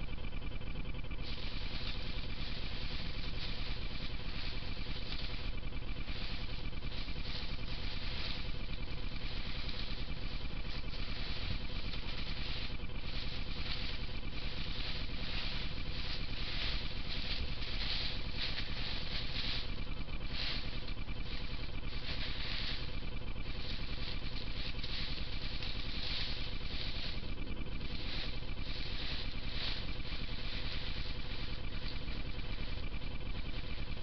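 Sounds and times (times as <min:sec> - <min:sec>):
faint high whine: 0:00.0 - 0:34.0
microphone hiss and hum: 0:00.0 - 0:34.0.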